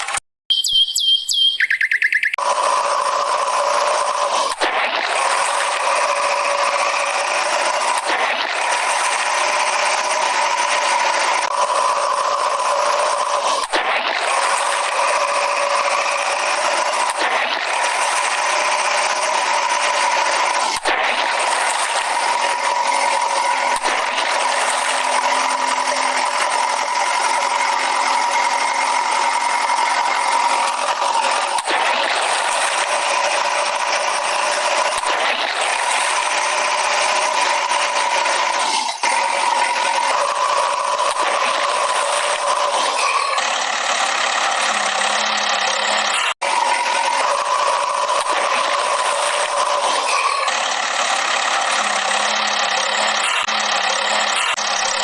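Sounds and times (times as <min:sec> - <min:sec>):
small electric motors whining: 0:02.4 - 0:55.0.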